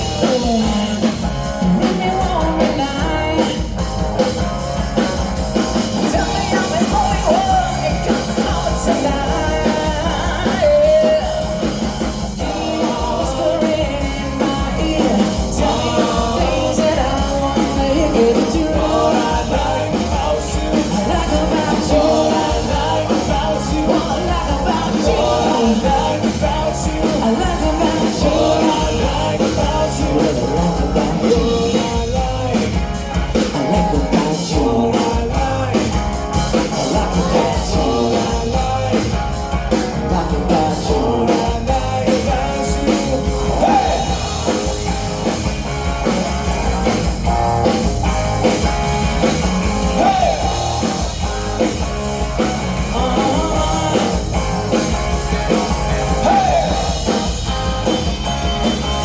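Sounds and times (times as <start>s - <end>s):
person singing: 0.0s - 4.4s, 5.8s - 45.4s, 49.2s - 59.0s
live rock band playing: 0.0s - 59.0s.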